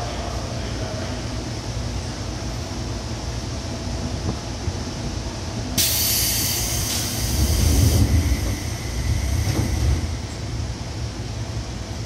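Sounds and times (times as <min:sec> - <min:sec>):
train car low rumble: 0:00.0 - 0:12.0.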